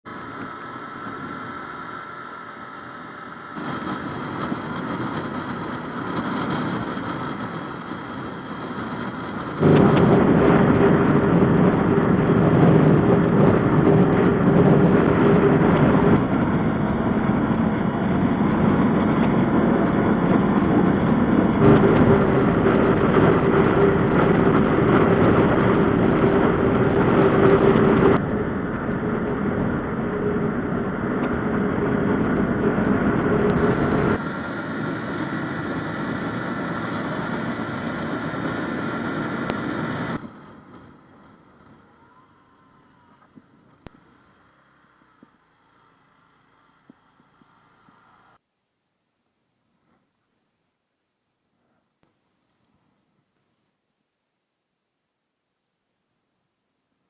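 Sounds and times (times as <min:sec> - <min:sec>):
motorcycle engine running: 0:00.1 - 0:48.3.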